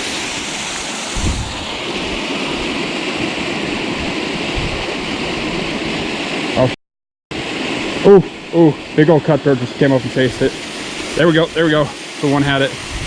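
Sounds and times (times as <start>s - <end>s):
waterfall rushing: 0.0s - 6.8s, 7.4s - 13.0s.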